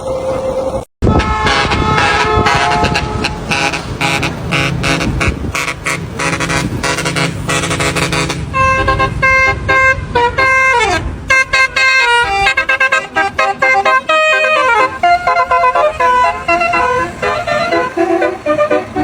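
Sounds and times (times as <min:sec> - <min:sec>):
engine rumble: 0:00.0 - 0:19.0
truck air horn playing tune: 0:01.0 - 0:19.0.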